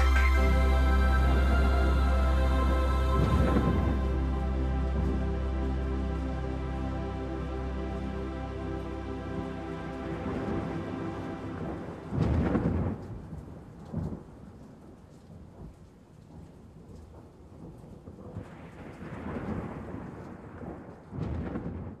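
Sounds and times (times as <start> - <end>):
thunder rumbling: 0.0 - 6.6, 9.9 - 22.0
steady rain: 0.0 - 22.0.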